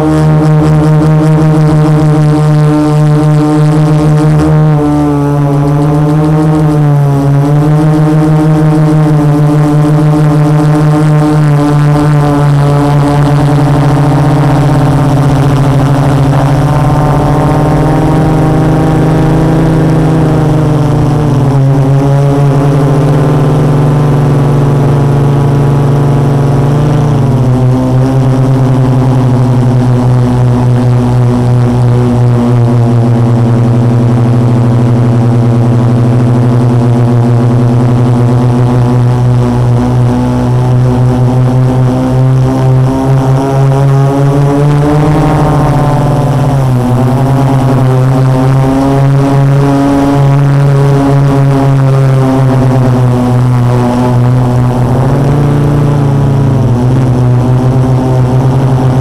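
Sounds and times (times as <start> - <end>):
drone motors droning: 0.0 - 59.0.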